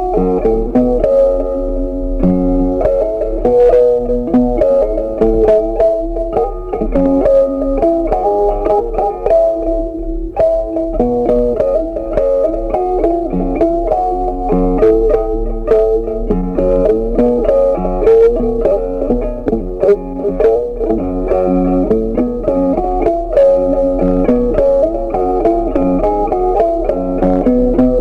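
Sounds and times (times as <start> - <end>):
guitar plucking a melody: 0.0 - 28.0.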